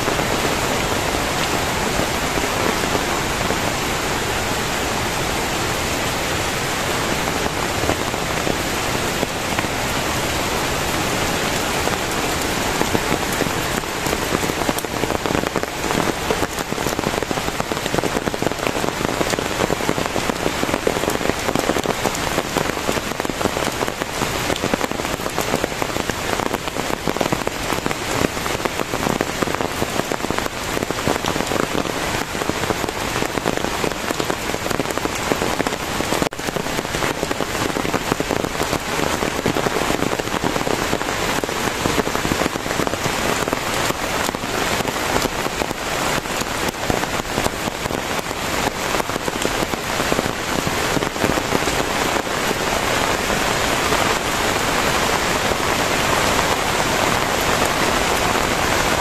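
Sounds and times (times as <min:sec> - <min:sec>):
heavy rain on foliage and roofs: 0:00.0 - 0:59.0.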